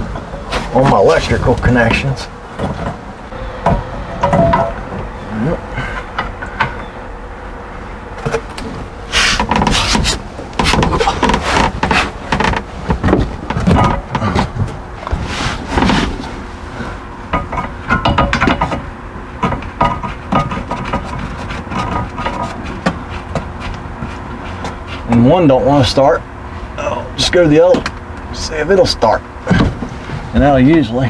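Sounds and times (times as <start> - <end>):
scraping bumps: 0.0 - 31.0.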